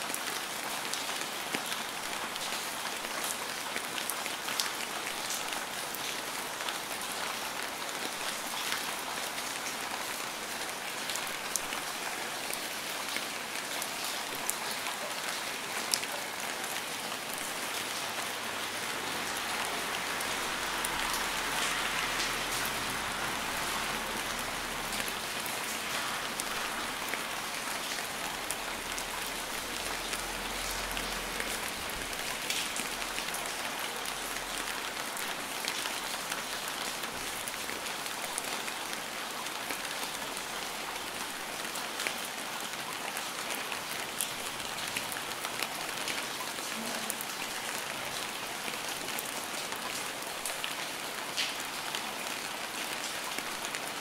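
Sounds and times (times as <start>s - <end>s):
steady rainfall hiss: 1.2s - 54.0s.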